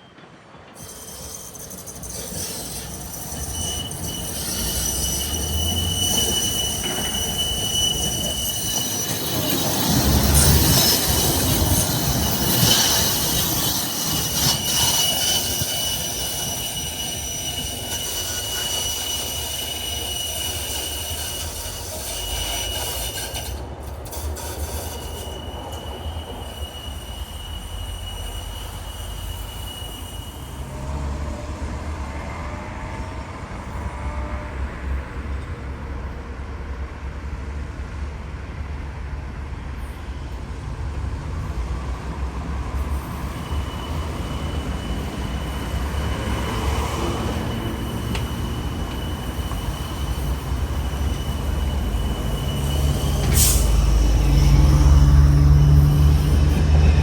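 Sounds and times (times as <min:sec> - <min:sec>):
tram wheels rumbling on rail: 0:00.0 - 0:57.0
high-pitched wheel squeal: 0:00.7 - 0:34.6, 0:42.0 - 0:57.0.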